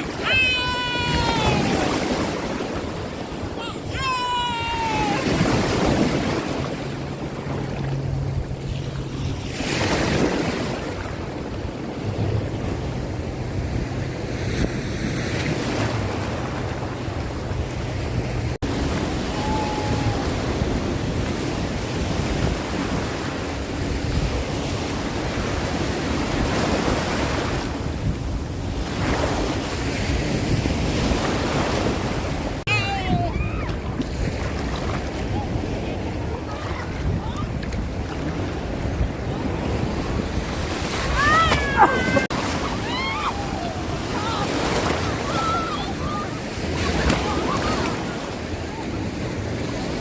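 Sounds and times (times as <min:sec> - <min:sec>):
sea waves washing in: 0:00.0 - 0:50.0
wind buffeting microphone: 0:00.0 - 0:50.0.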